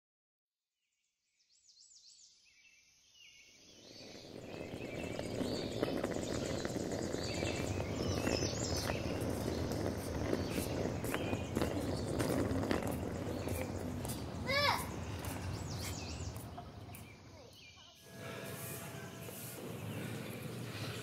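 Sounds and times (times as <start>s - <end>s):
birds chirping: 3.2s - 21.0s
insects humming: 3.6s - 21.0s.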